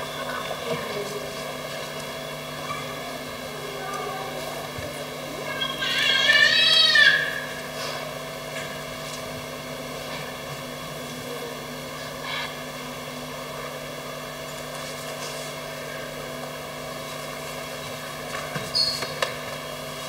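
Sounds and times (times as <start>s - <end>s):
hall room tone hum: 0.0s - 20.0s.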